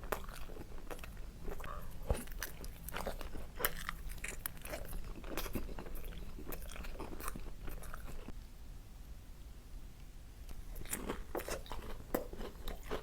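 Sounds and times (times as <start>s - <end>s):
person chewing crunchy food: 0.0s - 8.3s, 10.5s - 13.0s.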